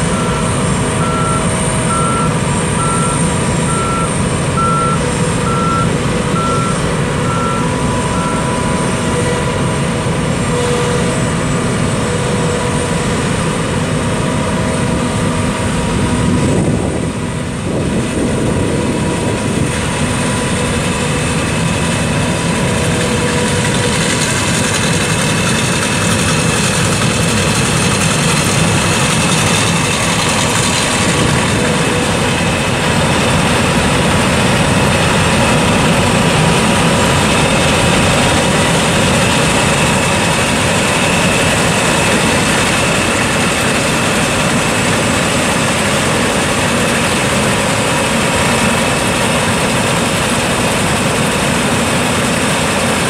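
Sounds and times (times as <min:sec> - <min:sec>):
diesel engine drone: 0:00.0 - 0:53.0.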